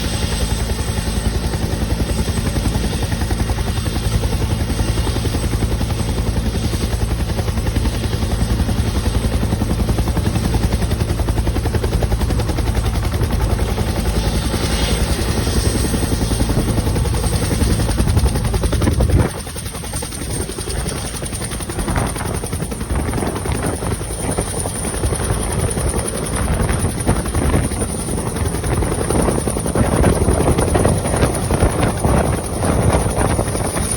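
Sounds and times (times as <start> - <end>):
helicopter rotor beat: 0.0 - 33.9
helicopter turbine whine: 0.0 - 33.9.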